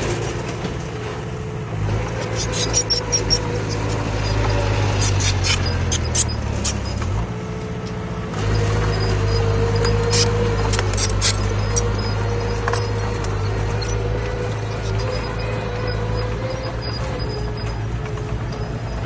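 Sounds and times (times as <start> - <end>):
bulldozer diesel engine: 0.0 - 19.0
steel tracks squeaking and clinking: 2.1 - 7.2, 8.4 - 19.0.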